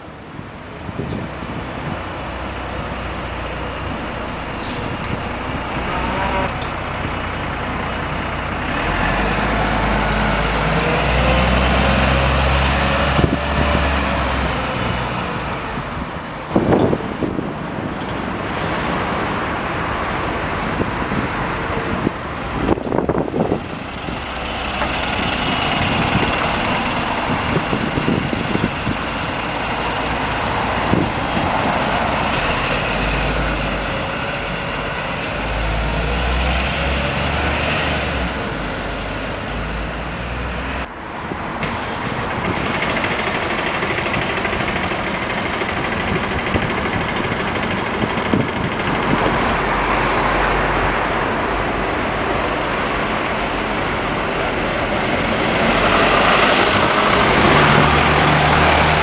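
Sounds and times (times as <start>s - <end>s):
diesel bus engines idling: 0.0s - 36.8s, 38.3s - 59.0s.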